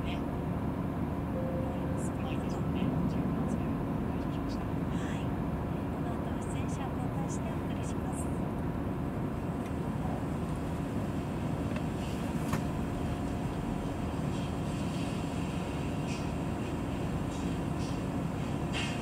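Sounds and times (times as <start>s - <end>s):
faint steady hum: 0.0s - 18.6s
car engines idling: 0.0s - 19.0s.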